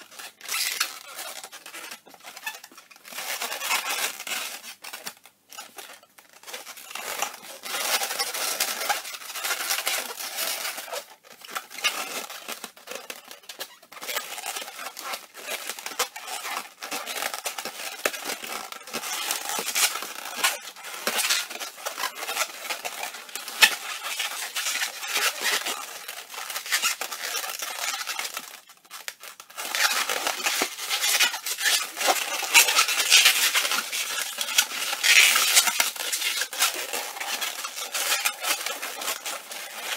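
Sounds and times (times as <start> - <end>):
balloons squeaking and rubbing: 0.0 - 39.9.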